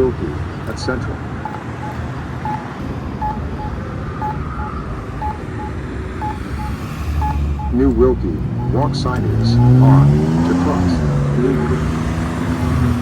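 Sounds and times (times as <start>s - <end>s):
low rumble of traffic: 0.0s - 13.0s
pedestrian signal beeps: 0.7s - 13.0s.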